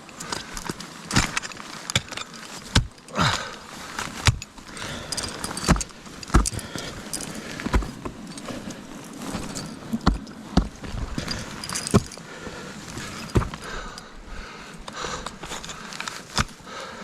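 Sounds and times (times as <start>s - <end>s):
ice axes striking ice: 0.0s - 8.6s, 9.2s - 14.1s, 14.9s - 16.8s
climbing hardware jangling: 0.0s - 14.2s, 14.8s - 16.7s.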